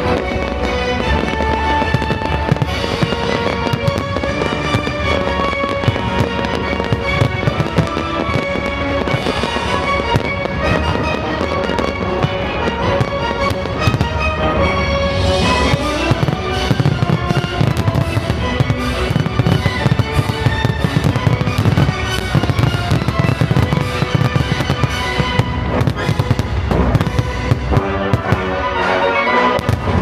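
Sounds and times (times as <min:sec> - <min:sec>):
firework bangs and crackles: 0:00.0 - 0:30.0
loud show music: 0:00.0 - 0:30.0.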